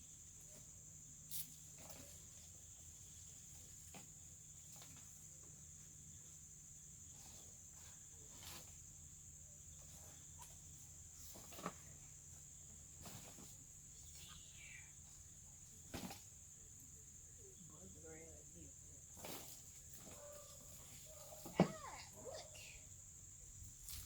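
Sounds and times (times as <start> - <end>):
faint high-pitched hiss: 0.0 - 24.0.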